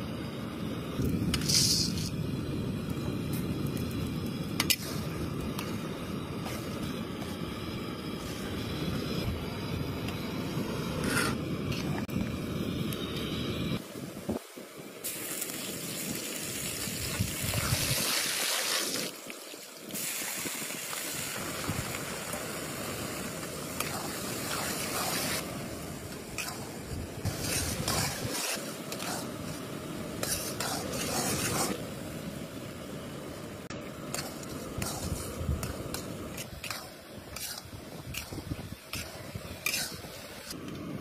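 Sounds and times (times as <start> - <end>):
liquid sizzling and bubbling: 0.0 - 41.0.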